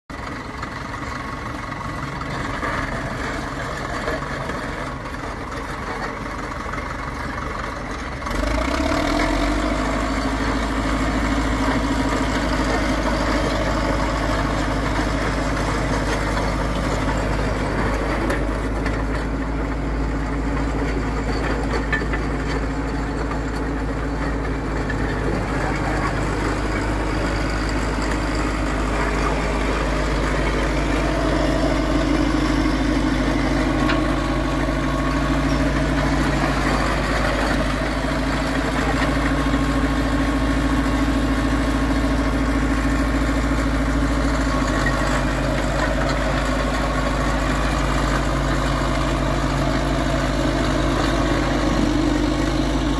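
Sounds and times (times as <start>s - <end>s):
diesel engine idling: 0.1s - 52.9s.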